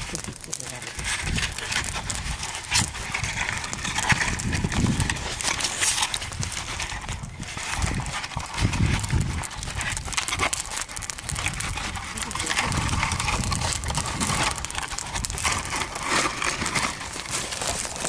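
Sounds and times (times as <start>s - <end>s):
irregular crackles and knocks: 0.0s - 18.0s
low rumbling: 0.0s - 18.0s.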